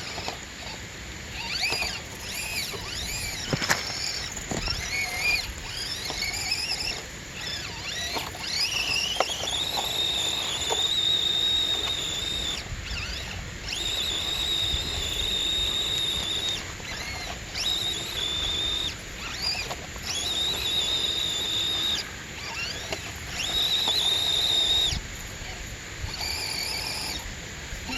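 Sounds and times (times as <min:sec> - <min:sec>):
toy car motor whining: 0:00.0 - 0:27.9.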